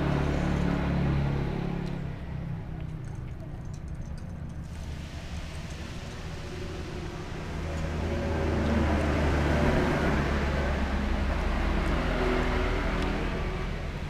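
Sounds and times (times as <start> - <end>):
vehicle engine passing by: 0.0 - 3.4, 4.6 - 14.0.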